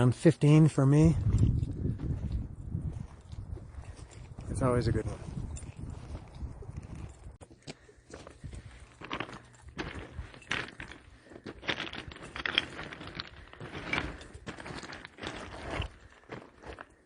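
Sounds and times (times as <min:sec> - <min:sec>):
footsteps crunching on dirt trail: 0:01.0 - 0:17.0.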